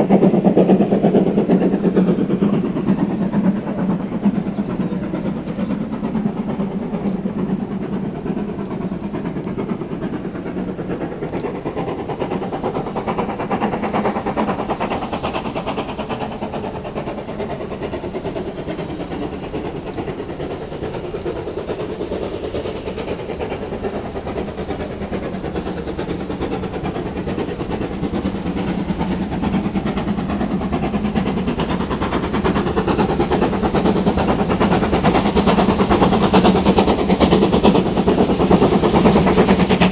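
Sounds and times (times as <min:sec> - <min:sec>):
steam train rhythmic clatter: 0:00.0 - 0:39.9.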